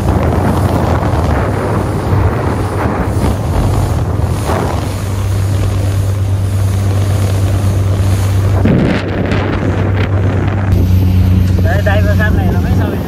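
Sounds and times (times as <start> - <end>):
motorboat engine drone: 0.0 - 13.0
rushing water: 0.0 - 13.0
wind buffeting microphone: 0.0 - 13.0.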